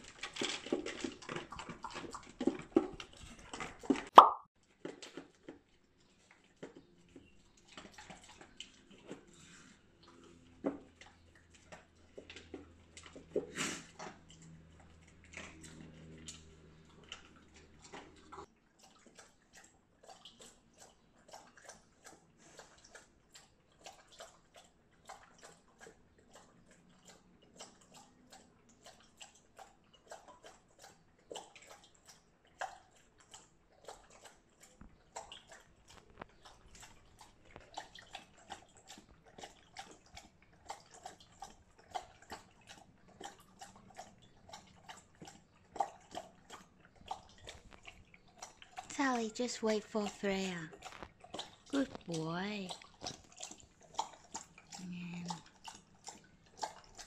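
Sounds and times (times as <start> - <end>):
dog eating dry kibble: 0.0 - 57.0
dog lapping water: 0.0 - 57.0.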